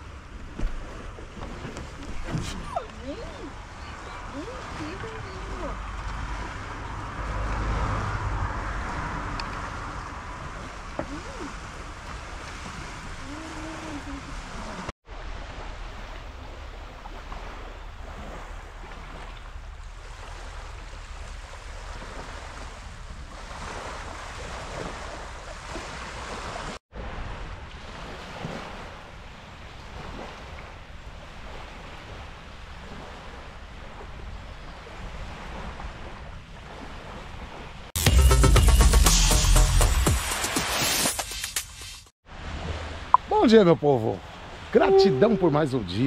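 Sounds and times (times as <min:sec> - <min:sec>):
waves washing onto beach: 0:00.0 - 0:38.0, 0:42.2 - 0:46.0.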